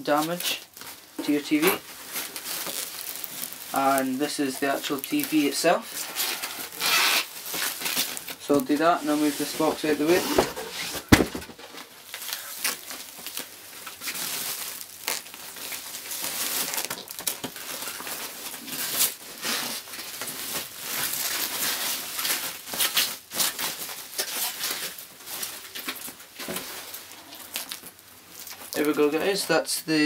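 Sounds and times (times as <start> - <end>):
plastic bag crinkling: 0.2 - 29.7.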